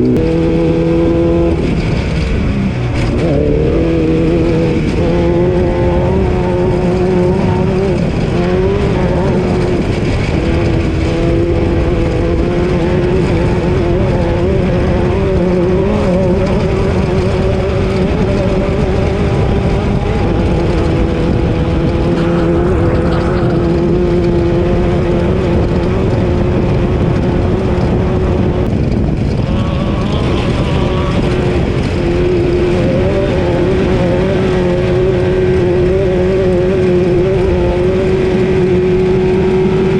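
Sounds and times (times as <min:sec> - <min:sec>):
car rumbling over rough ground: 0:00.0 - 0:39.9
race car engine revving: 0:00.0 - 0:39.9.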